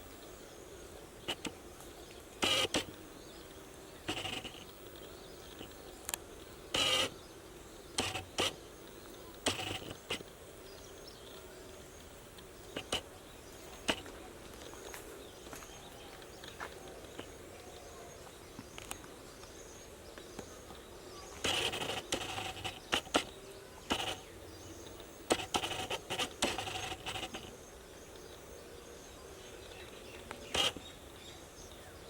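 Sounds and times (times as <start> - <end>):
faint bird chirping: 0.0 - 32.0.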